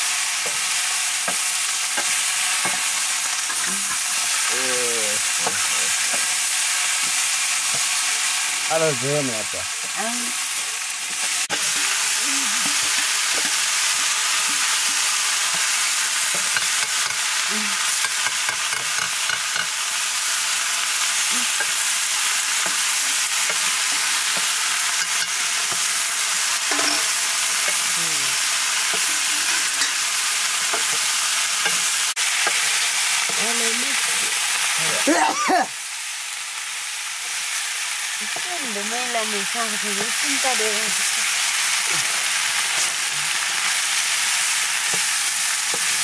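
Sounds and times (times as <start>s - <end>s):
potatoes sizzling in wok: 0.0s - 46.0s.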